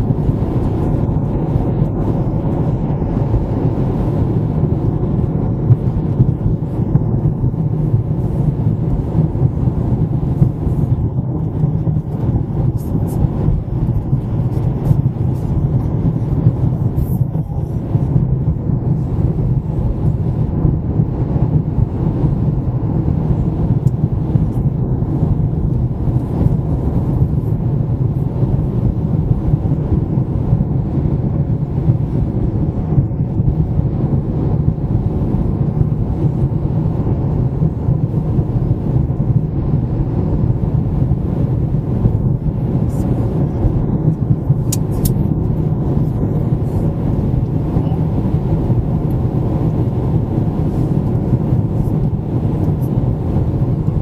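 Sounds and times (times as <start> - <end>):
car tyres and engine on road: 0.0 - 54.0.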